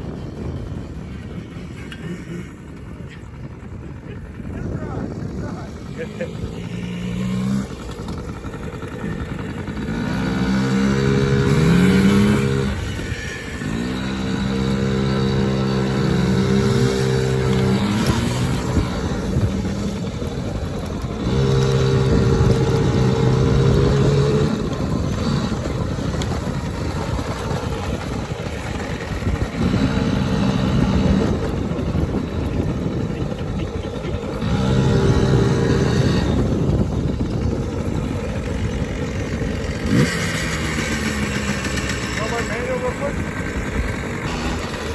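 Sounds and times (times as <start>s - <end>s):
small engine revving: 0.0s - 44.9s.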